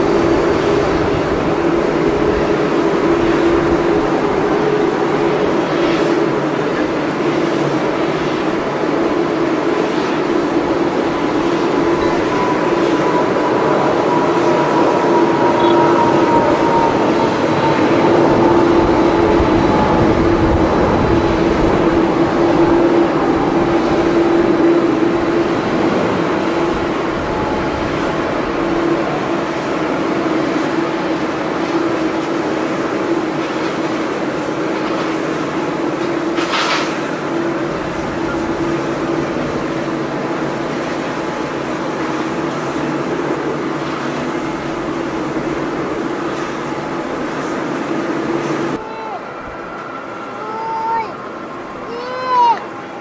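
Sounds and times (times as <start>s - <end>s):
jet engines at takeoff thrust: 0.0s - 53.0s.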